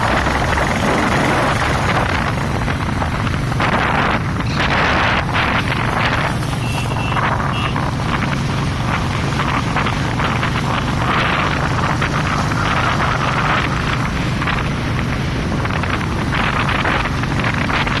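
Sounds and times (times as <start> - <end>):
vehicle engine running: 0.0 - 18.0
wind buffeting microphone: 0.0 - 18.0.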